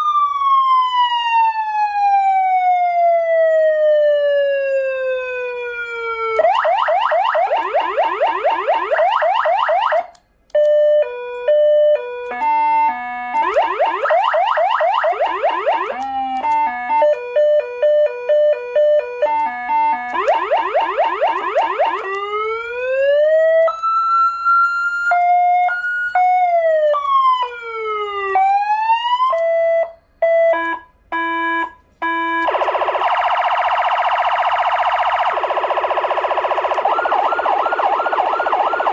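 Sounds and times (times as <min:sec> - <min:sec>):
electronic siren cycling tones: 0:03.4 - 0:10.2, 0:12.3 - 0:24.1, 0:24.7 - 0:38.9.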